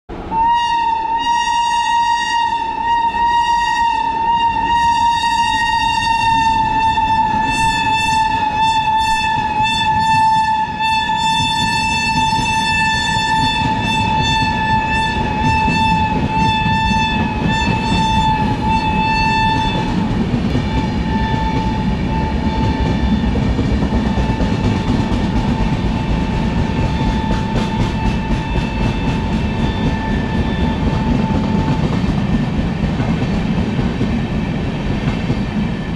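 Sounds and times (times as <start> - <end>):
shrill locomotive horn: 0.1 - 32.0
train rumble: 0.1 - 35.9.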